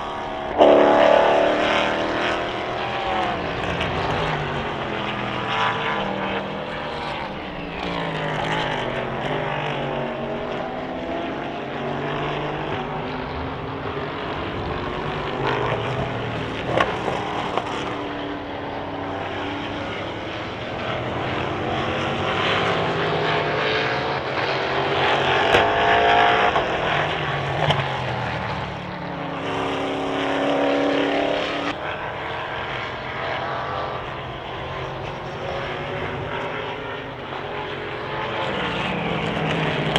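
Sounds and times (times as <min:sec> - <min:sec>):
race cars passing: 0:00.0 - 0:39.9.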